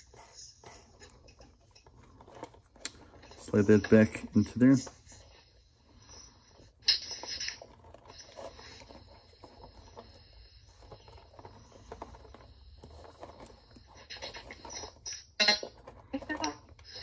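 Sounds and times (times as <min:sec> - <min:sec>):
plastic parts scraping: 0:00.0 - 0:17.0.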